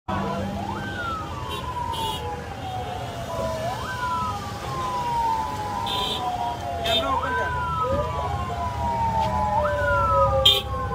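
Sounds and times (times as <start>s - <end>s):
low traffic rumble: 0.1s - 10.9s
siren wailing: 0.1s - 10.9s.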